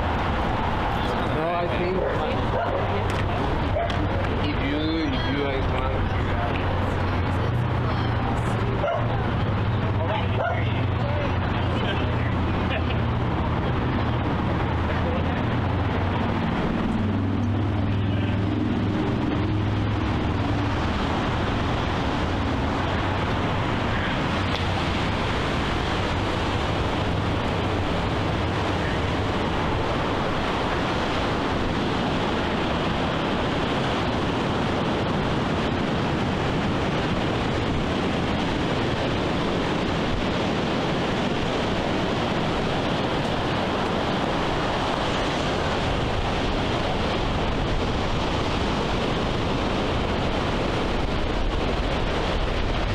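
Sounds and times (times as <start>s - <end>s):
ocean surf: 0.0s - 52.9s
wind noise on microphone: 0.0s - 52.9s.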